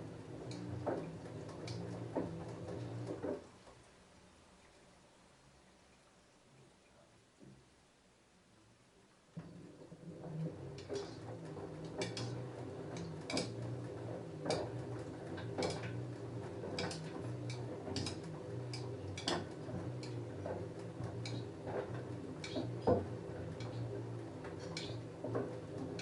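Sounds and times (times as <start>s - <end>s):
washing machine motor hum: 0.0s - 5.6s, 9.3s - 26.0s.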